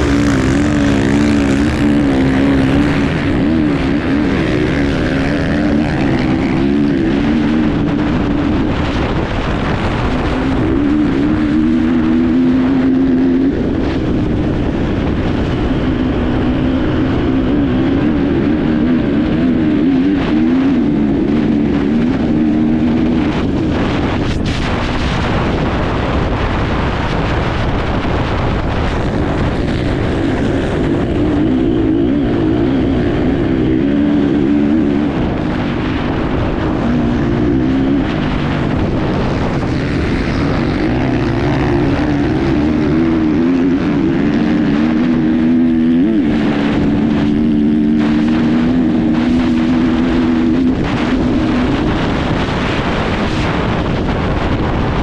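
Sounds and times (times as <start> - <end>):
motorcycle engine revving: 0.0 - 55.0
rough-ground noise: 0.0 - 55.0
wind rushing: 0.0 - 55.0.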